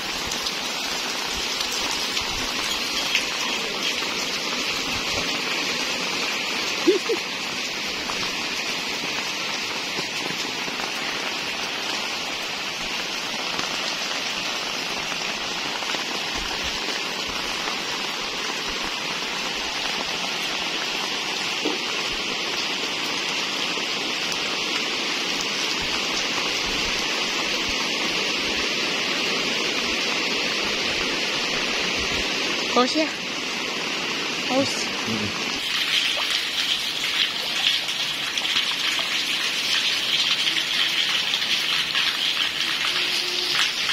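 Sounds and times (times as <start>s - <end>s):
rain on wet concrete: 0.0s - 43.9s.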